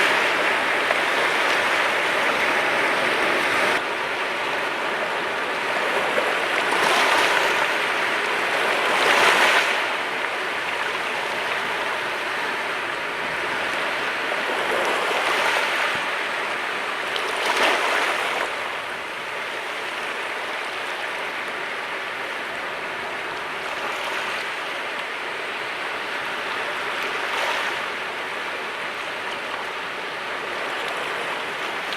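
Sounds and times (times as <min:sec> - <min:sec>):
sea waves washing on shore: 0:00.0 - 0:31.9.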